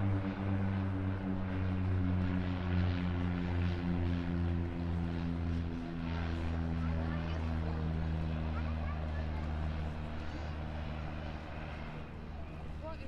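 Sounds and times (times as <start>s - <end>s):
turboprop engine drone: 0.0s - 13.0s.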